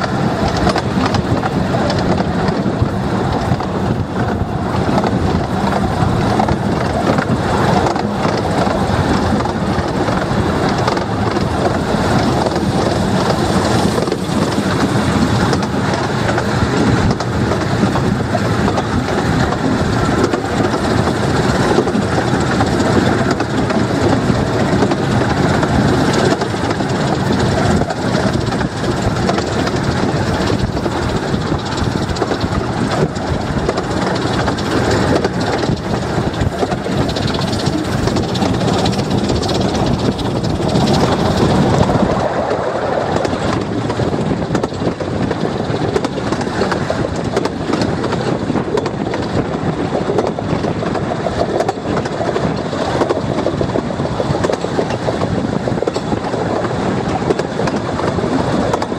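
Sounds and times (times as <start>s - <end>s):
train wheels clattering on rails: 0.0s - 58.9s.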